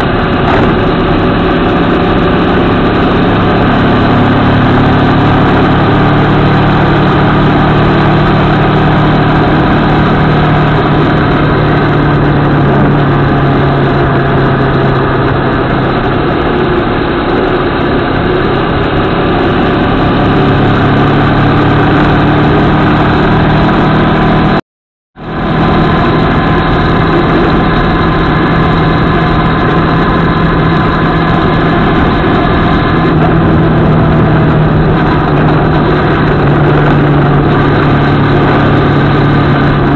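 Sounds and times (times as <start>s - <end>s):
motorcycle engine cruising: 0.0s - 24.6s, 25.2s - 39.9s
wind and road noise: 0.0s - 24.6s, 25.2s - 39.9s.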